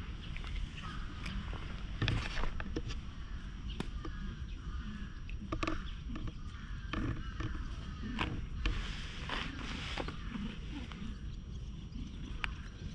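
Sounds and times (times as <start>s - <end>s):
birds calling: 0.0s - 12.9s
wind rumble on microphone: 0.0s - 12.9s.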